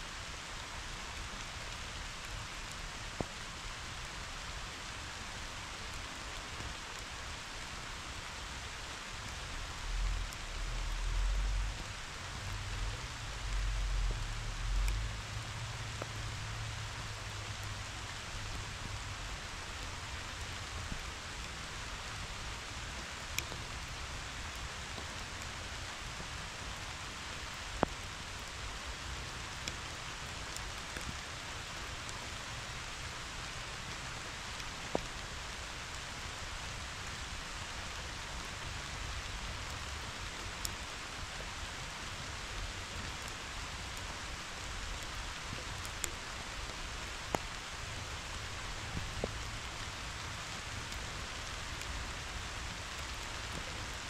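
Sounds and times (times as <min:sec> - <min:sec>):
rain falling on grass: 0:00.0 - 0:54.0.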